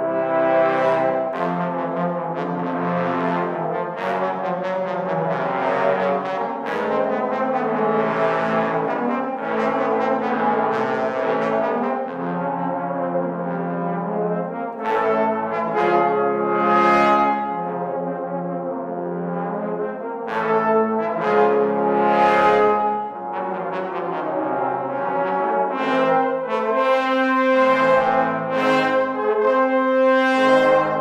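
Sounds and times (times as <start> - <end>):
trombones playing chords: 0.0 - 31.0.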